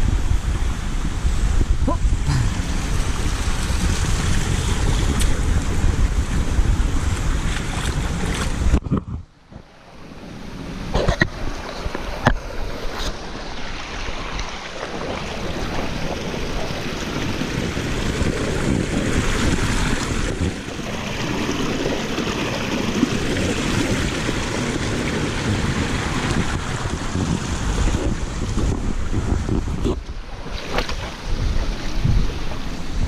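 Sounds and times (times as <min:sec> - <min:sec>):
stream rushing over rocks: 0:00.0 - 0:08.8, 0:09.4 - 0:33.0
wind buffeting microphone: 0:00.0 - 0:14.3, 0:14.9 - 0:33.0.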